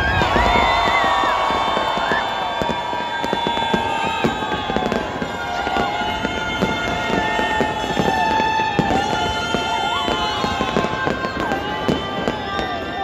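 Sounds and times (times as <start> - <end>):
fireworks crackling and popping: 0.0 - 13.0
fireworks whistles: 0.0 - 13.0.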